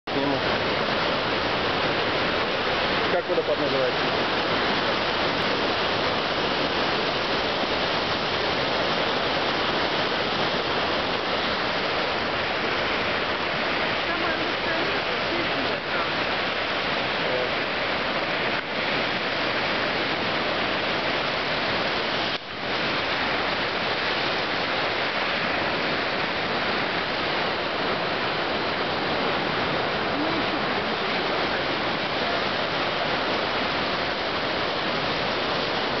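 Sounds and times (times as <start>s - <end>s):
waterfall and rapids rushing: 0.1s - 36.0s.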